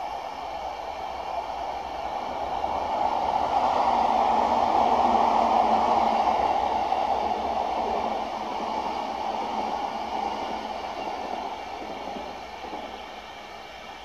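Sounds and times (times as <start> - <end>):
electric train running past: 0.0 - 14.0.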